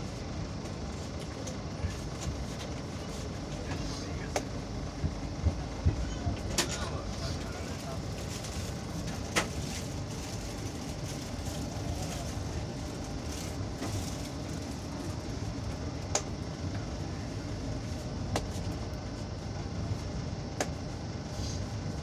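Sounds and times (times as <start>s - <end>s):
train rumble inside coach: 0.0s - 22.0s.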